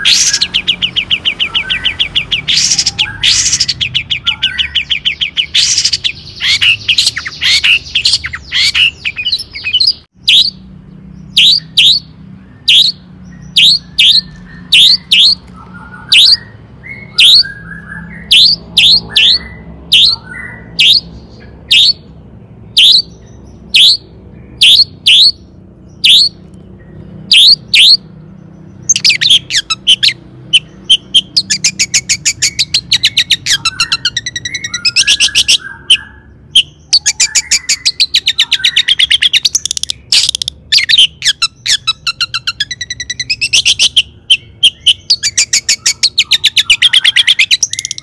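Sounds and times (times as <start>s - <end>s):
bird chattering trill: 0.0s - 48.0s.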